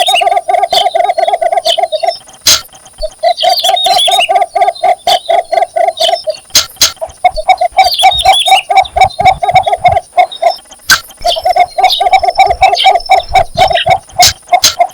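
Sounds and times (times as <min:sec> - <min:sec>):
bird clucking call: 0:00.0 - 0:14.9.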